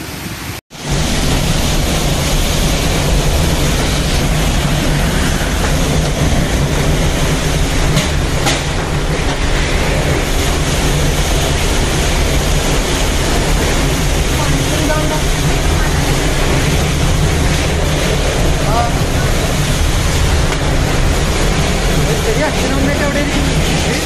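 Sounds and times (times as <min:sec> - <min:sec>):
wind and heavy rain rushing: 0:00.0 - 0:24.0
deep rumble: 0:00.8 - 0:24.0.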